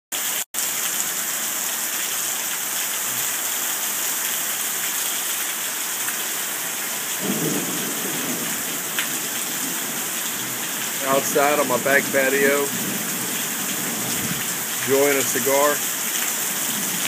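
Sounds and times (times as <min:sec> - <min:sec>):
heavy rain on concrete: 0:00.1 - 0:17.0.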